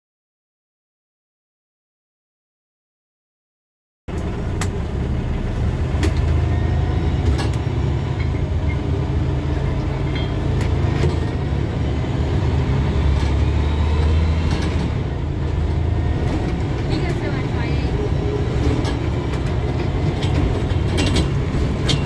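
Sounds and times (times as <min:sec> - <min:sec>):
bus engine droning: 0:04.1 - 0:22.0
road noise: 0:04.1 - 0:22.0.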